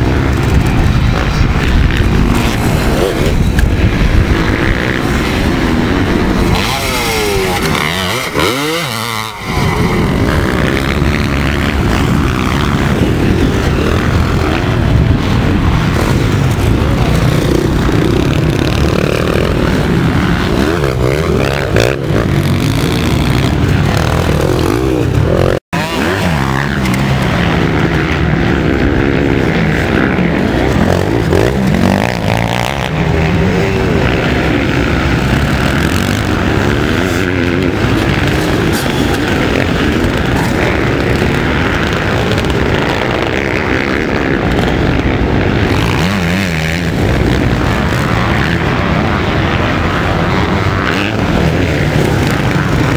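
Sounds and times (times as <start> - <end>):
motorcycle engines revving: 0.0 - 52.9.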